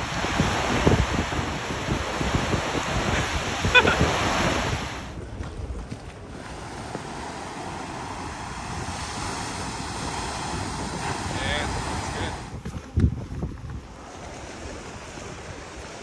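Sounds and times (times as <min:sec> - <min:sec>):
surf breaking on rocks: 0:00.0 - 0:16.0
wind buffeting microphone: 0:00.0 - 0:16.0.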